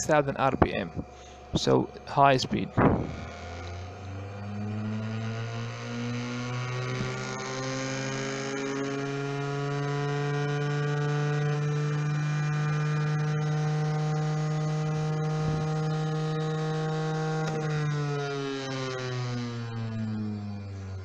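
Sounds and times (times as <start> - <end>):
electric motor humming: 0.0 - 21.0.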